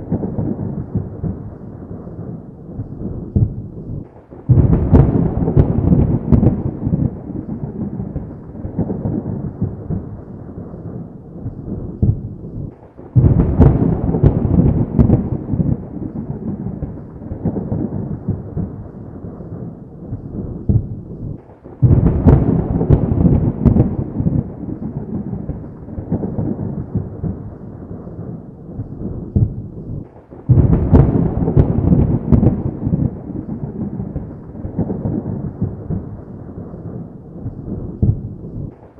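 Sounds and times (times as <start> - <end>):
thunderclaps cracking and rumbling: 0.0 - 38.9.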